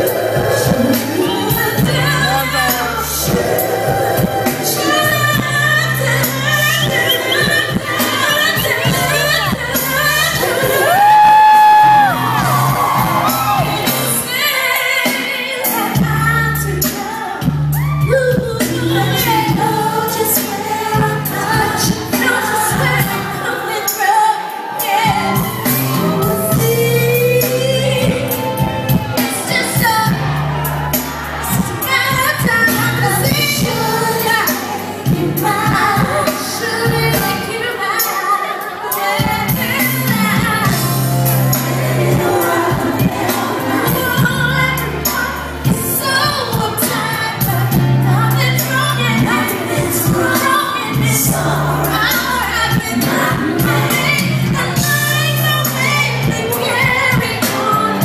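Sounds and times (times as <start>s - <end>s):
live band with bass line: 0.0s - 23.9s, 24.6s - 38.2s, 38.8s - 58.0s
woman singing into microphone: 0.0s - 58.0s.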